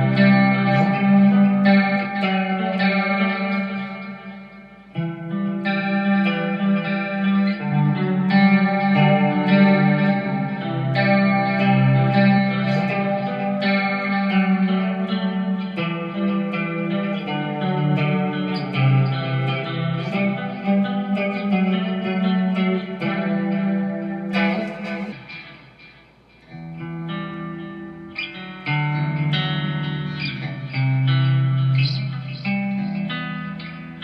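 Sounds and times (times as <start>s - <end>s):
electric guitar chords: 0.0s - 34.0s.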